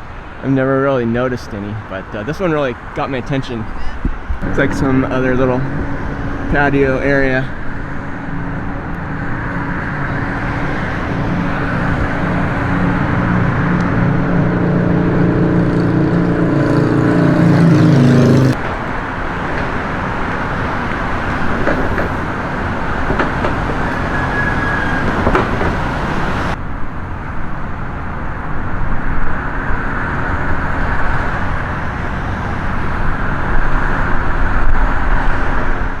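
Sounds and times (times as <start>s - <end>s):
passing traffic: 0.0s - 36.0s
vehicle engine humming: 1.5s - 36.0s.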